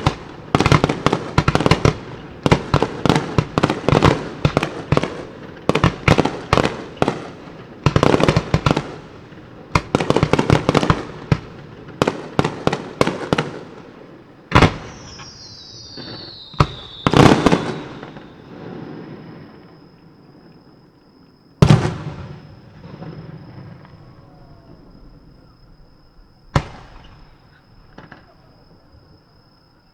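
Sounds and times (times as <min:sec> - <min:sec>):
fireworks bangs and crackles: 0:00.0 - 0:29.4
falling firework whistle: 0:00.0 - 0:29.9.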